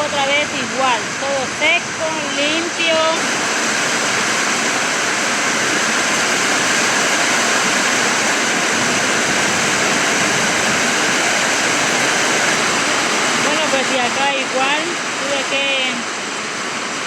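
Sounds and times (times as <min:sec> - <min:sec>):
storm water rushing: 0:00.0 - 0:17.0.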